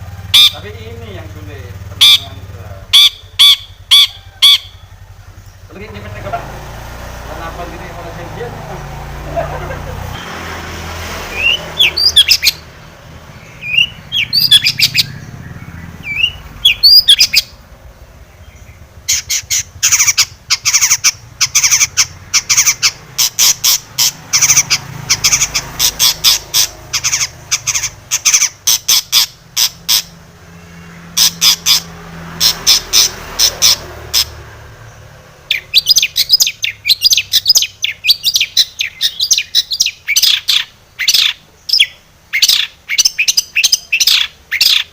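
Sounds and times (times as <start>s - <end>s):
bird chirping rapidly: 0.0s - 44.9s.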